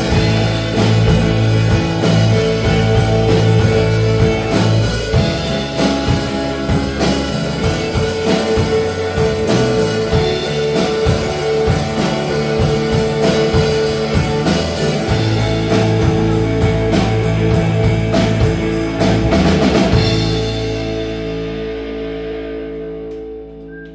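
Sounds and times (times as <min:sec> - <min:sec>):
drum kit: 0:00.0 - 0:23.9
electric guitar: 0:00.0 - 0:23.9
rock band playing live: 0:00.0 - 0:23.9.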